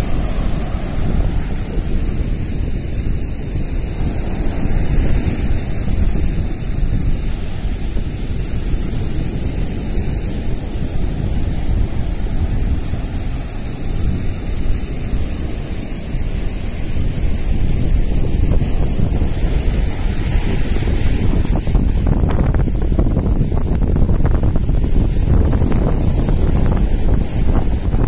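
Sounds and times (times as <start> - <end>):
surf washing onto sand: 0.0 - 28.0
wind buffeting microphone: 0.0 - 28.0.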